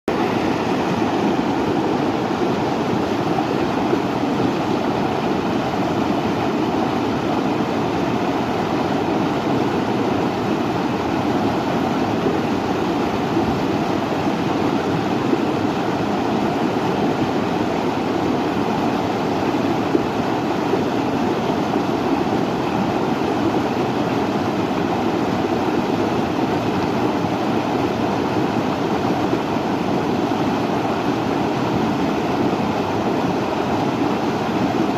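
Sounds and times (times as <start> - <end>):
steady nature ambience rushing: 0.1 - 34.9.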